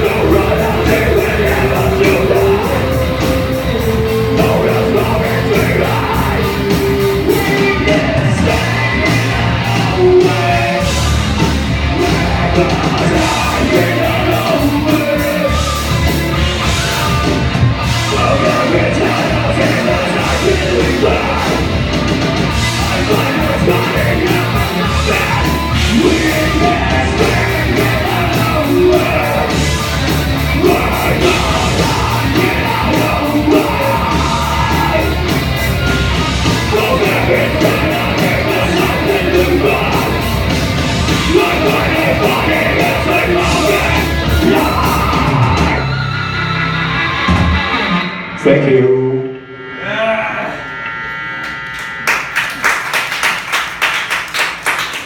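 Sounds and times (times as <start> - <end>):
person singing: 0.0 - 11.2, 11.9 - 21.8, 22.6 - 46.0
live rock band playing: 0.0 - 55.0.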